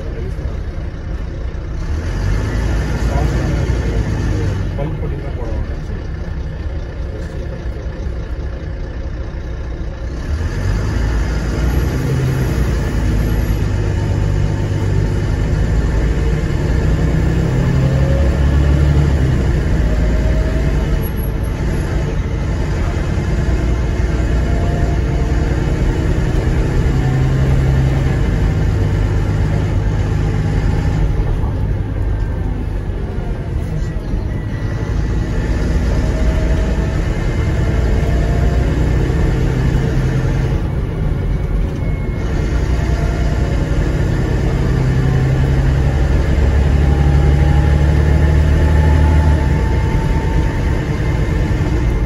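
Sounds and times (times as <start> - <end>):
bus diesel engine running hard: 0.0 - 52.0
road noise: 0.0 - 52.0.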